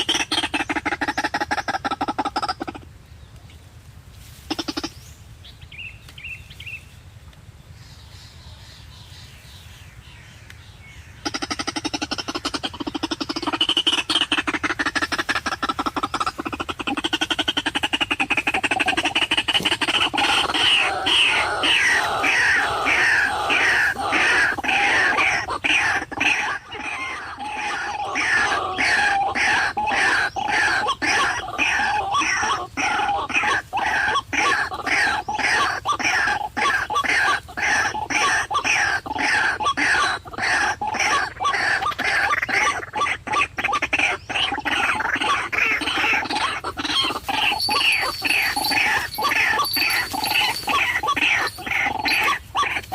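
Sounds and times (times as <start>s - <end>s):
waterhen calling: 0.0s - 2.9s, 11.2s - 52.9s.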